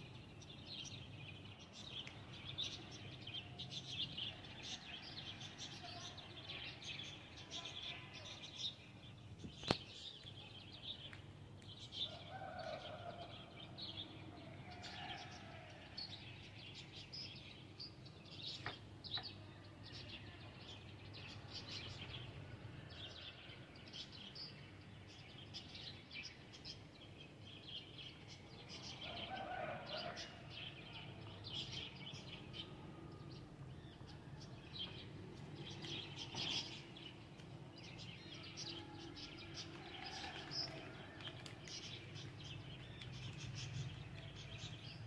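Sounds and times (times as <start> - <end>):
small birds chirping: 0.0 - 12.2, 16.2 - 45.0.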